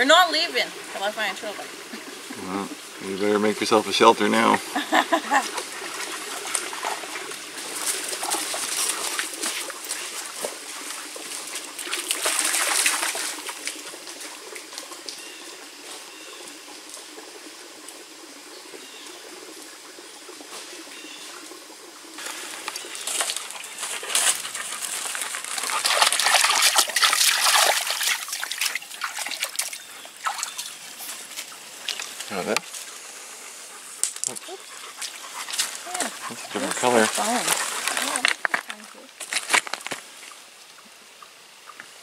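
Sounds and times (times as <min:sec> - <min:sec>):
creek trickling over stones: 0:00.0 - 0:42.0.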